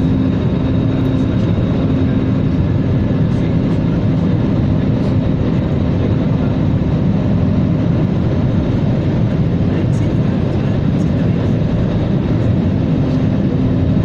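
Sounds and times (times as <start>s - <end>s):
airliner cabin engine rush: 0.0s - 14.0s.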